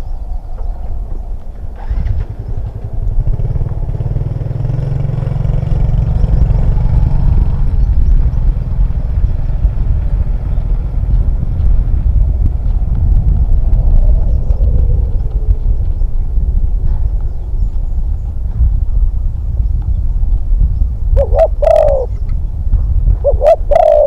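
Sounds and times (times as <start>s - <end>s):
motorcycle engine running: 0.4s - 24.0s.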